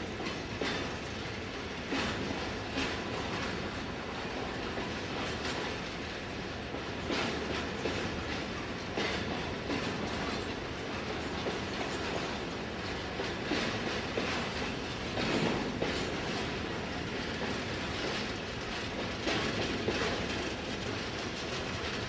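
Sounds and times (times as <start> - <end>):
train rumble: 0.0 - 22.0
train wheels clacking: 0.0 - 22.0.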